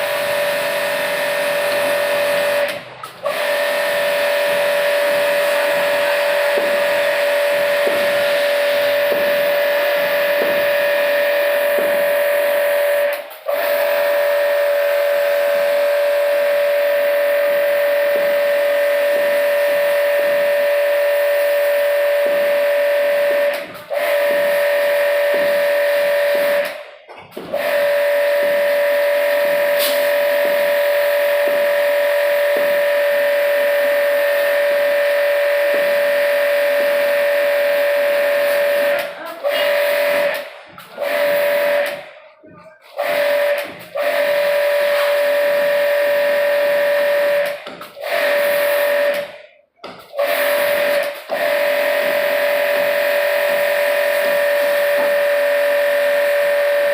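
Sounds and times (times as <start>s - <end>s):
machine running with high whine: 0.0s - 56.9s.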